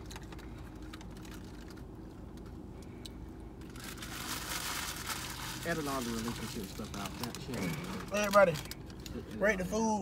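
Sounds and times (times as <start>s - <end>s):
car engine humming: 0.0s - 10.0s.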